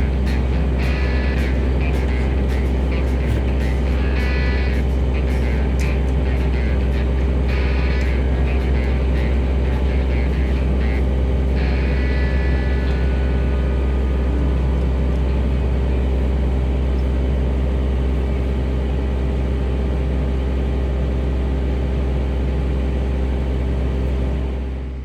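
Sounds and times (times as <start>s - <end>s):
skid steer engine humming: 0.0s - 25.0s.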